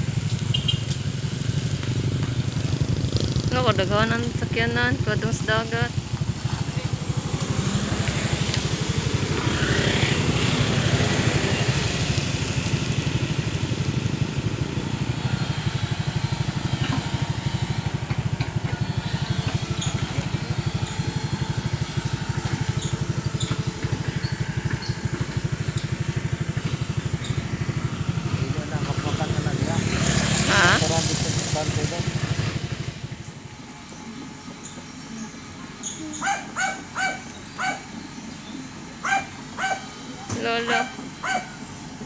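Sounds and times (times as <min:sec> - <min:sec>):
engine running with fast pulse: 0:00.0 - 0:42.0.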